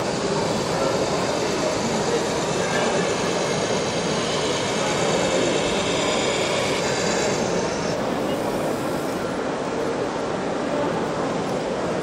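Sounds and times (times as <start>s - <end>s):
model truck motors: 0.0s - 10.6s
chatter of voices: 0.0s - 12.0s.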